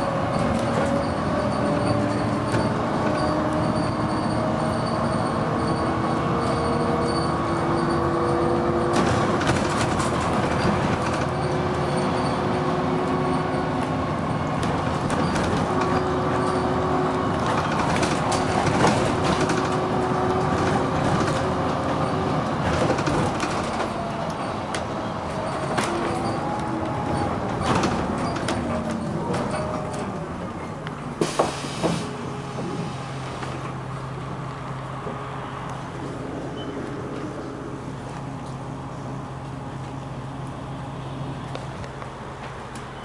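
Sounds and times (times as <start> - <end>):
bus engine droning and whining: 0.0 - 43.0.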